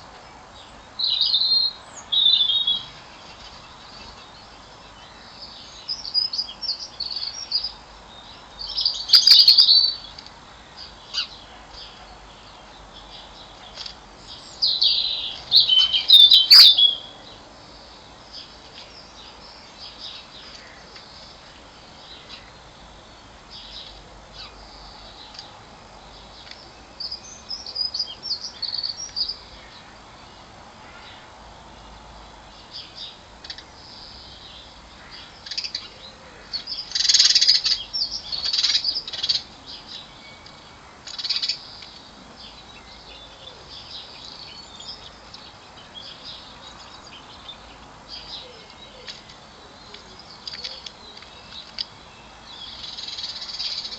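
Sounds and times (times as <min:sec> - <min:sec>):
songbirds chirping and twittering: 0:00.0 - 0:53.9.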